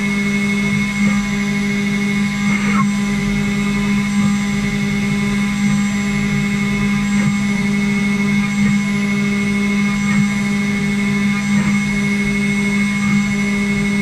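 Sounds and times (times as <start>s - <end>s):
bit cutting noise: 0.0s - 14.0s
router spindle whine: 0.0s - 14.0s.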